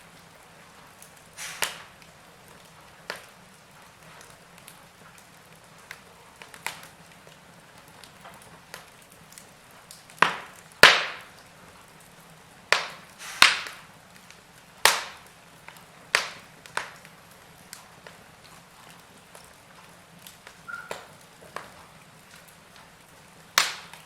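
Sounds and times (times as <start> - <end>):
soft hiss: 0.0 - 24.0
wood fire crackling: 0.0 - 24.0.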